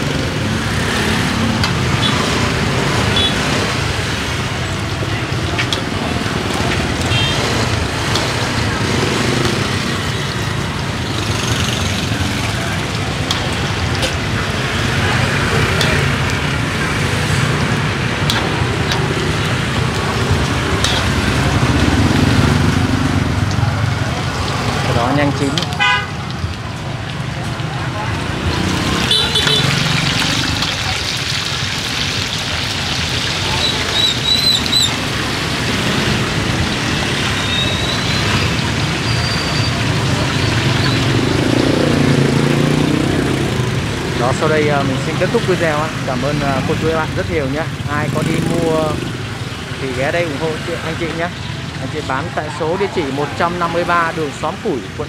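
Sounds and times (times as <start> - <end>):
meat deep-frying in oil: 0.0 - 54.9
low rumble of street traffic: 0.0 - 55.0.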